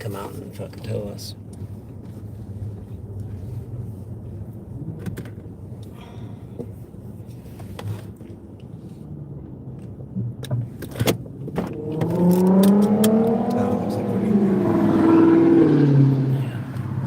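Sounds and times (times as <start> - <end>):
car idling: 0.0 - 17.0.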